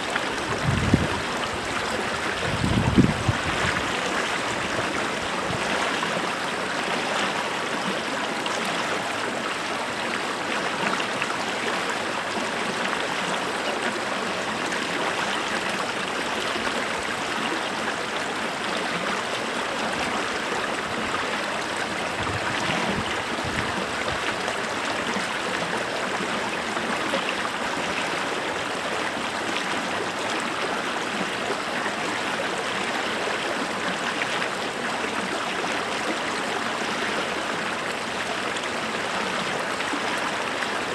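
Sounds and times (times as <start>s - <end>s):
creek water running over stones: 0.0s - 40.9s.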